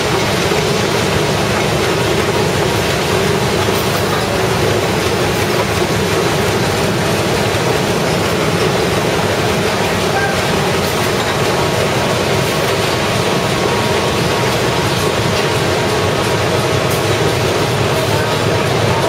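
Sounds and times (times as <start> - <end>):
printing machine running: 0.0 - 19.0.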